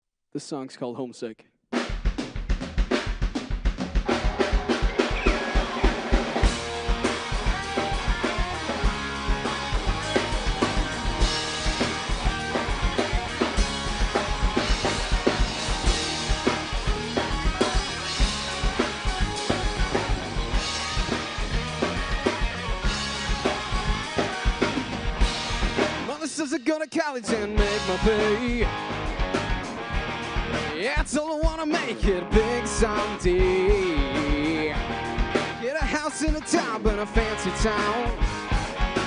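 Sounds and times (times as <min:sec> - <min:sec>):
drum kit steady beat: 0:01.7 - 0:39.0.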